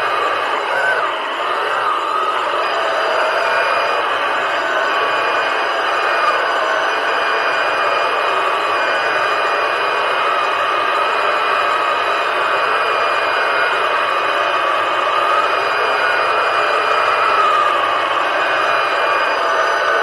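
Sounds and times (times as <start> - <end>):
underwater scooter motor whine: 0.0 - 20.0.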